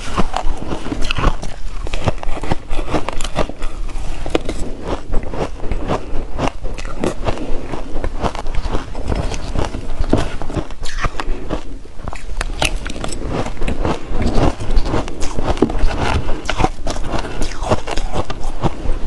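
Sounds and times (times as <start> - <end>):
chewing crunchy ice: 0.0 - 19.0.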